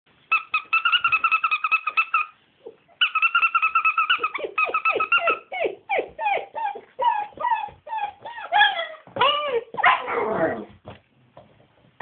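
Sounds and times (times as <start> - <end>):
puppies whining in high squeaks: 0.3 - 10.6.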